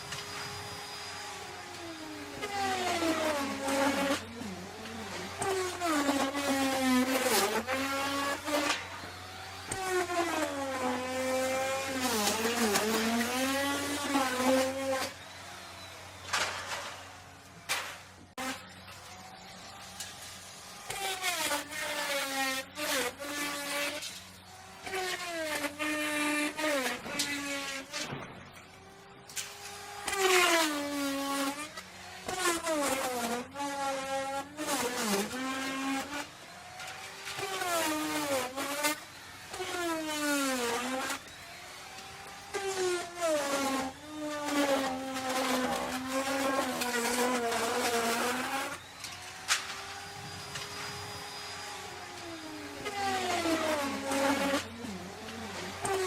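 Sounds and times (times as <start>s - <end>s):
wood router cutting wood: 0.0s - 56.0s.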